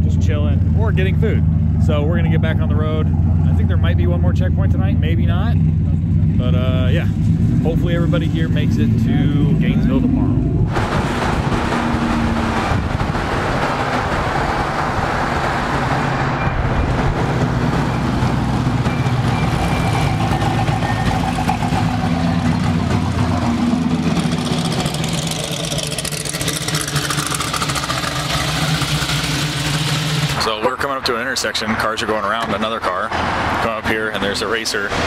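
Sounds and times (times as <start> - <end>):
car engines running: 0.0 - 35.0.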